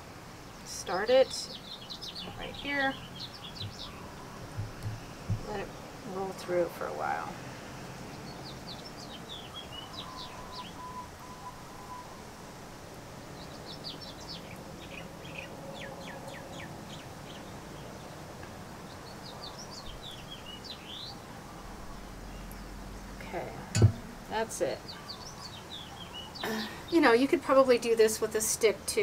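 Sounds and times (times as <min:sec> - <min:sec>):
small birds chirping: 0:00.4 - 0:12.2, 0:13.1 - 0:28.8.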